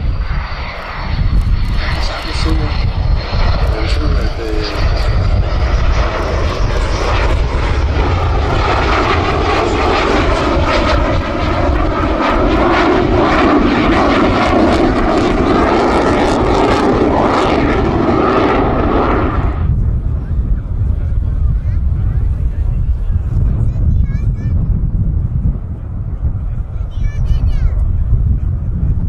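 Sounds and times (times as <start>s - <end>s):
fighter jet flying past: 0.0s - 29.0s.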